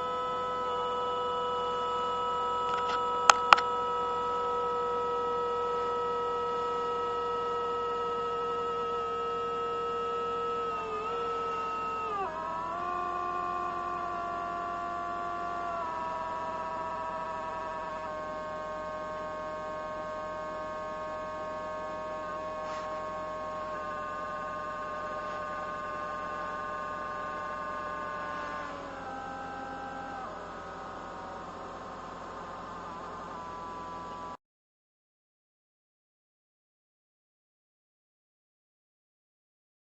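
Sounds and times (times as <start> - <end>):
multi-tone electronic whine: 0.0 - 34.4.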